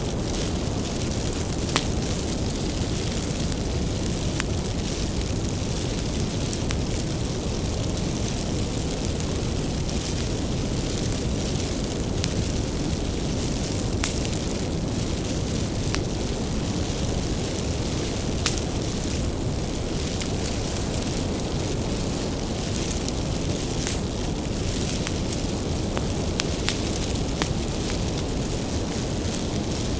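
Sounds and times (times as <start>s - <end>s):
wood fire crackling and popping: 0.0s - 29.9s.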